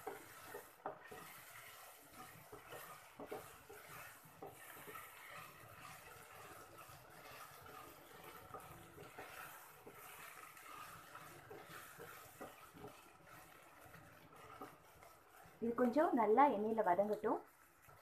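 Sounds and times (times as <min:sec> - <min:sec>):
vegetables frying in oil: 0:00.0 - 0:18.0
wooden spatula scraping a pan: 0:00.0 - 0:18.0.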